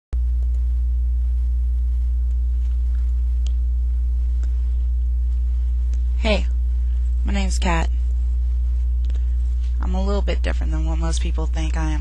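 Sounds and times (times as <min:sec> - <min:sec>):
low electrical hum: 0:00.2 - 0:12.0.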